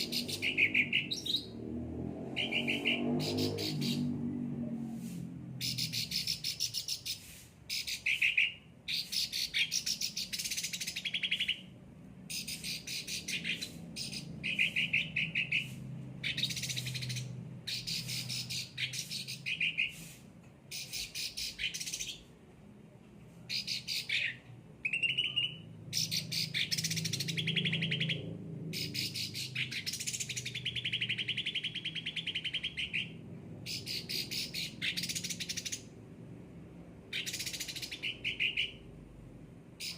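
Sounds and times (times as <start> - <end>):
bird chattering song: 0.0 - 1.6, 2.3 - 4.2, 5.6 - 22.3, 23.5 - 35.9, 37.1 - 39.0.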